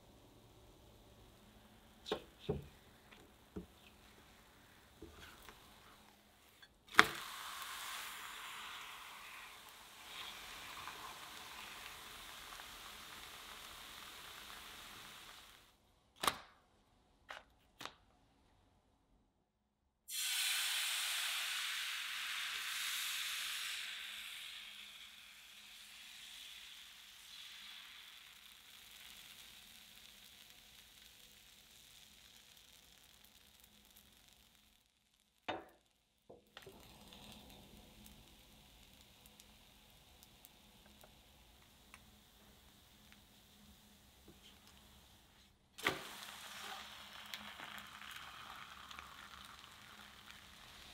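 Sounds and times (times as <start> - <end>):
batter sizzling in a pan: 0.0 - 15.8, 20.1 - 50.9.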